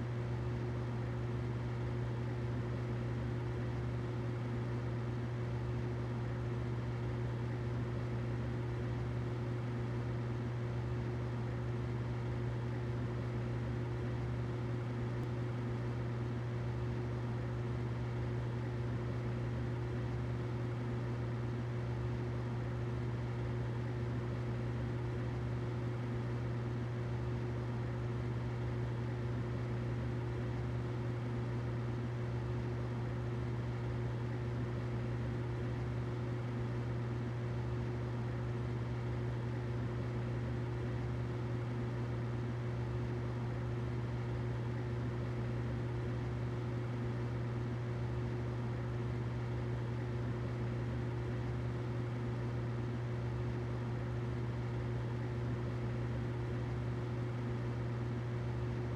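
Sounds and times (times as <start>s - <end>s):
humidifier humming and hissing: 0.0s - 58.9s.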